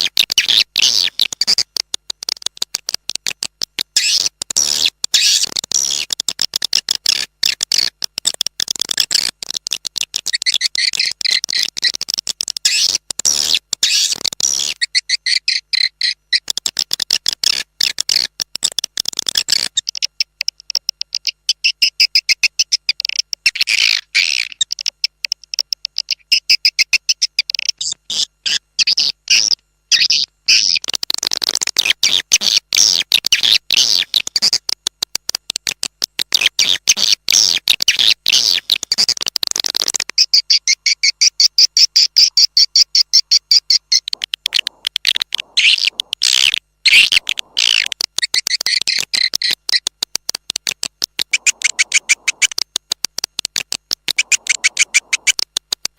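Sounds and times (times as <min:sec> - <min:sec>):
fast high-pitched bird chirps: 0:00.0 - 0:02.9, 0:04.0 - 0:06.4, 0:08.8 - 0:18.3, 0:19.1 - 0:30.9, 0:31.8 - 0:34.6, 0:36.4 - 0:39.2, 0:40.2 - 0:49.9, 0:51.1 - 0:52.6, 0:53.5 - 0:55.5.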